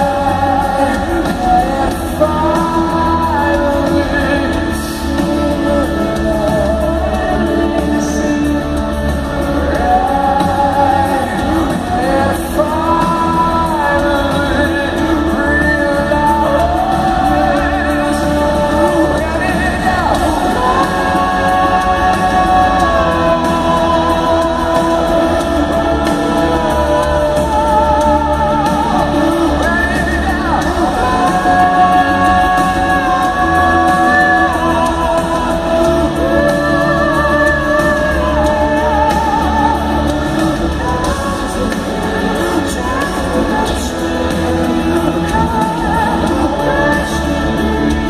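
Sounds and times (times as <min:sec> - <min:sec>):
live rock band: 0:00.0 - 0:48.0
person singing long notes: 0:00.0 - 0:48.0.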